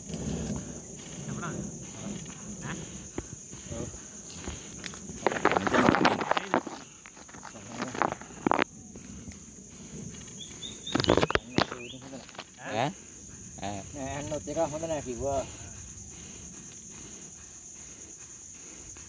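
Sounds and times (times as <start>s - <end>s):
branches and leaves rustling: 0.0s - 18.7s
high-pitched insect drone: 0.0s - 19.0s.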